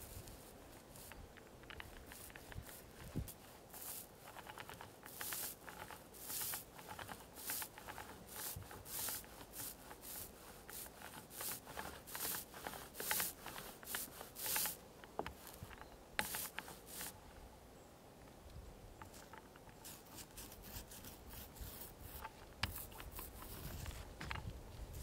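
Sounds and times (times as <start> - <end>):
paint roller swishing on wood: 0.0 - 17.2, 19.0 - 25.0.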